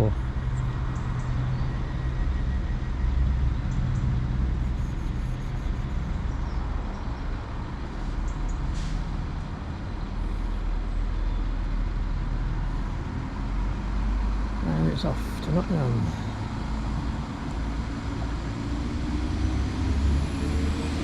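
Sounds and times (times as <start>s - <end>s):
train engine hum: 0.0s - 21.0s.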